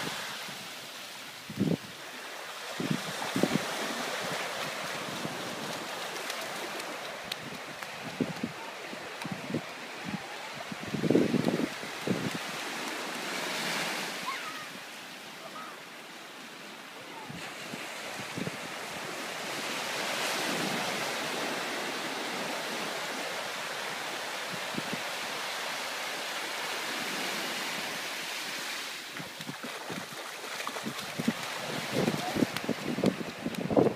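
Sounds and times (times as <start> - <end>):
small waves breaking on beach: 0.0 - 33.9.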